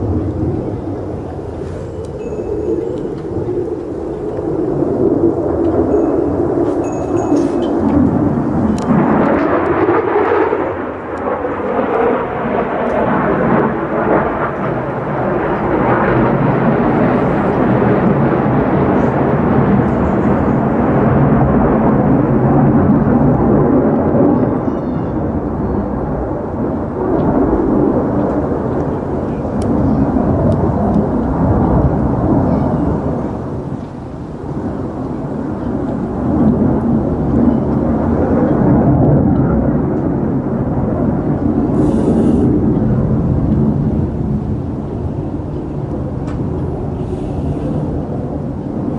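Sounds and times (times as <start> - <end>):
jet fighter engine rumble: 0.0 - 48.9.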